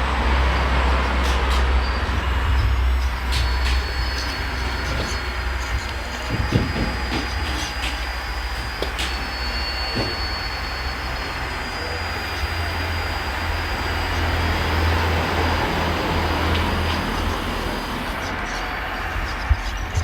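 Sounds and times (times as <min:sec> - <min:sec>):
model machinery running rumble: 0:00.0 - 0:20.0
thin high whine: 0:00.4 - 0:20.0.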